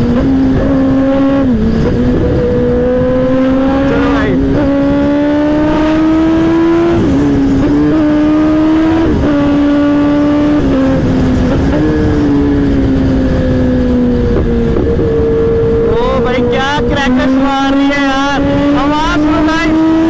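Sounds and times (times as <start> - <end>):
motorcycle engine at high revs: 0.0 - 20.0
wind rush: 0.0 - 20.0.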